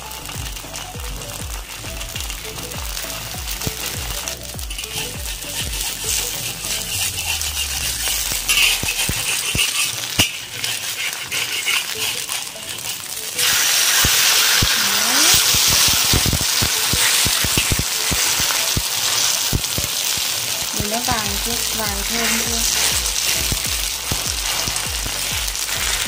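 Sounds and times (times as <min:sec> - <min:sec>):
fritter sizzling in oil: 0:00.0 - 0:26.0
metal spatula scraping wok: 0:01.7 - 0:26.0.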